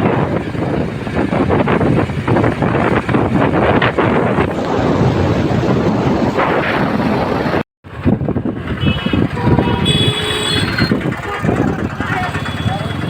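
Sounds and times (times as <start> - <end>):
road traffic noise: 0.0 - 13.0
wind buffeting microphone: 0.0 - 13.0.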